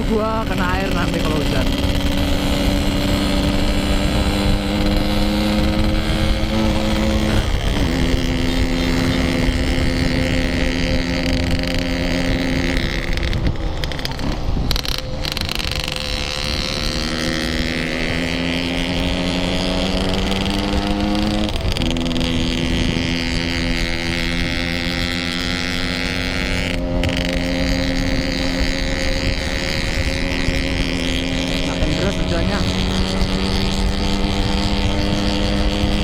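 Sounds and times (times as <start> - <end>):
two-stroke motorcycle engine: 0.0 - 36.0.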